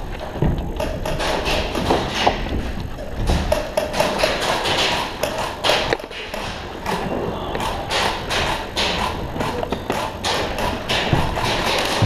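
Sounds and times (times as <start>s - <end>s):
airsoft gunfire: 0.8s - 2.5s, 3.3s - 12.0s.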